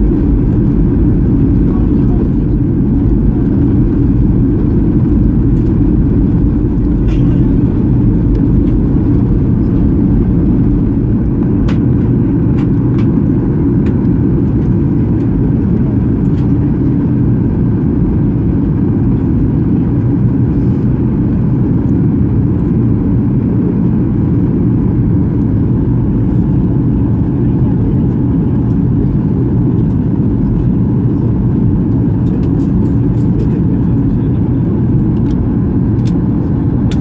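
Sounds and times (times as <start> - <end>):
airplane cabin engine rumble: 0.0 - 37.0.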